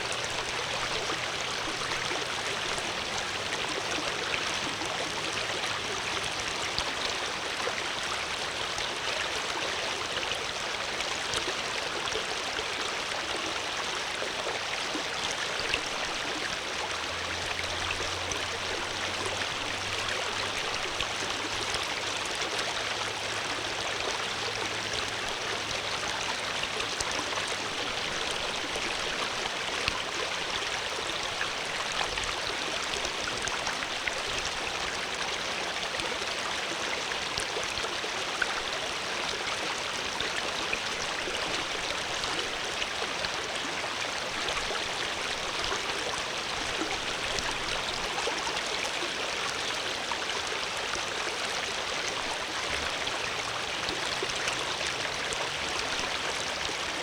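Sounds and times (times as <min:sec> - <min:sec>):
stream splashing and gurgling: 0:00.0 - 0:57.0.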